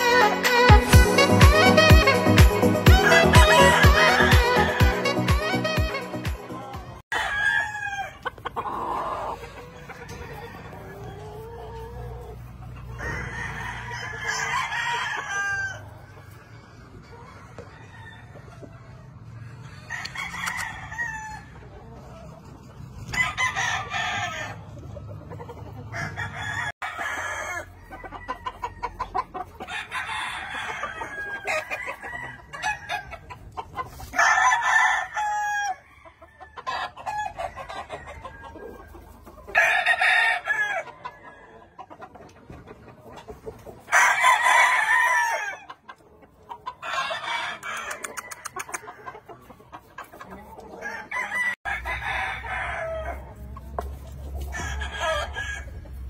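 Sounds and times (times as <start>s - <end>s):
roosters crowing: 0.0s - 22.0s, 22.8s - 24.8s, 25.8s - 42.1s, 43.8s - 46.0s, 46.6s - 56.0s
chickens clucking: 0.0s - 56.0s.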